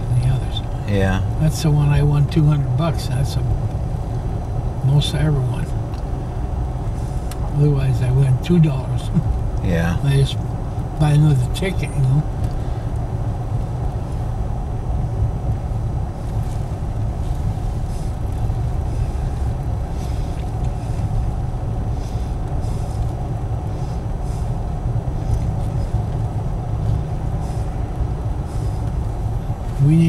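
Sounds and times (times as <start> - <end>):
vehicle engine and road rumble: 0.0 - 30.0.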